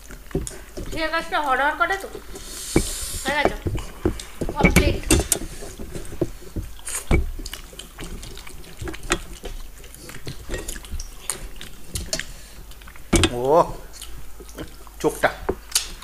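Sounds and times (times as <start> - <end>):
fingers squelching through wet rice: 0.0 - 16.0
mouths chewing: 0.0 - 16.0
small clicks and smacks: 0.0 - 16.0.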